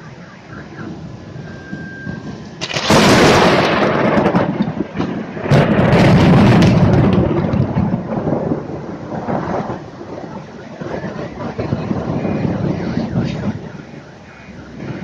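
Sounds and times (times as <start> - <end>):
thunder crack and rumble: 0.0 - 15.0.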